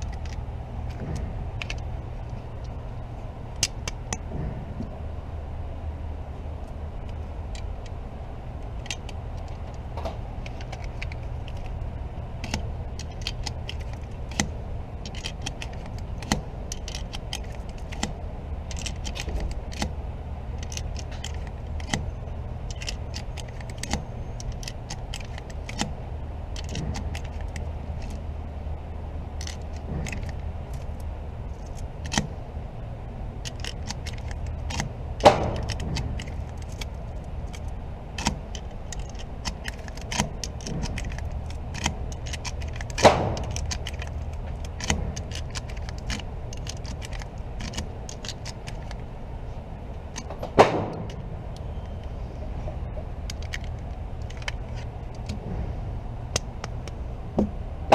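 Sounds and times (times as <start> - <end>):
metallic clicks and rattles: 0.0 - 2.8, 3.5 - 4.9, 8.6 - 28.3, 29.4 - 32.4, 33.4 - 49.1, 49.9 - 55.6
low hum: 0.0 - 57.9.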